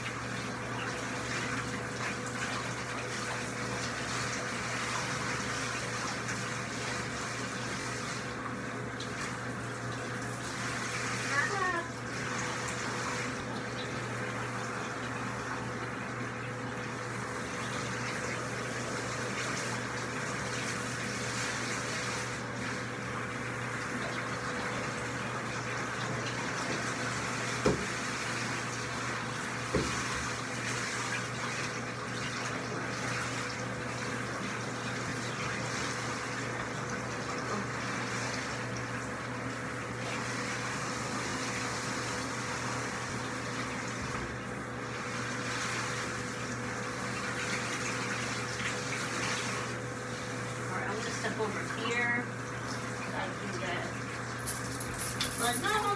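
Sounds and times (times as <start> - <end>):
shower water running: 0.0 - 55.9.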